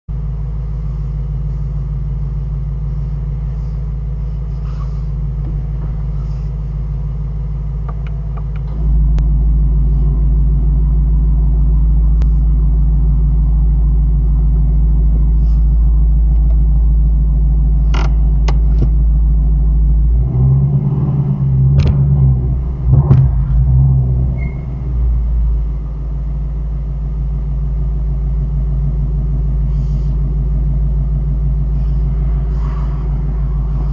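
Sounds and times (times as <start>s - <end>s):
car engine humming: 0.1s - 33.9s.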